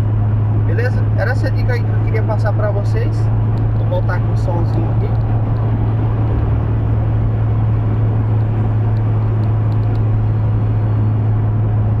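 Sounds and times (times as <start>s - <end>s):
car engine drone: 0.0s - 12.0s
tyre and road noise: 0.0s - 12.0s.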